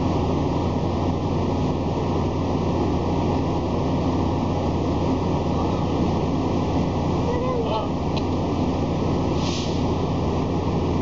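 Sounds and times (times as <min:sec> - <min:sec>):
train humming: 0:00.0 - 0:11.0.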